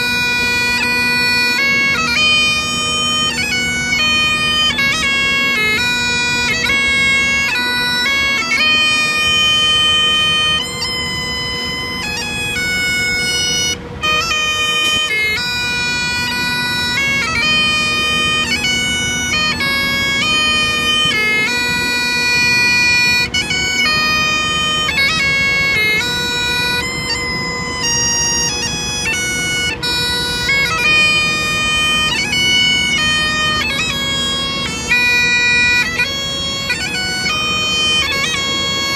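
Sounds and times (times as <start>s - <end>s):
bagpipes playing a tune: 0.0s - 38.9s.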